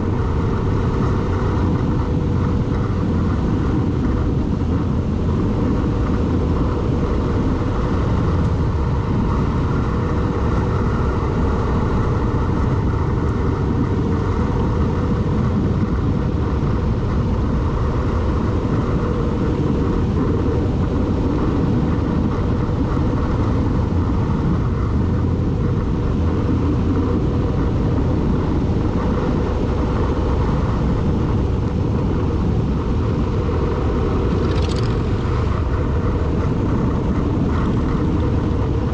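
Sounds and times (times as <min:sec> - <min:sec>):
vehicle driving along road: 0:00.0 - 0:38.9.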